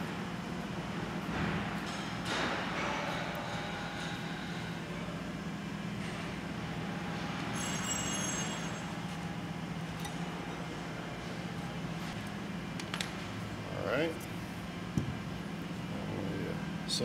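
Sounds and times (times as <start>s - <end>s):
workshop machinery hum: 0.0s - 17.0s.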